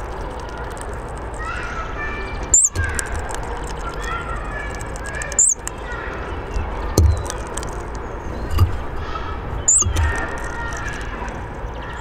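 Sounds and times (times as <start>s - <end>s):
birds twittering: 0.0s - 12.0s
high sharp bird calls: 1.4s - 12.0s.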